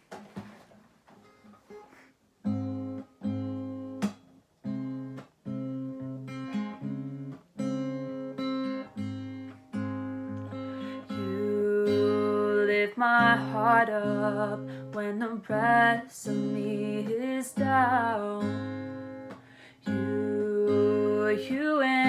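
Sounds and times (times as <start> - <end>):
acoustic guitar strumming chords: 2.5 - 22.0.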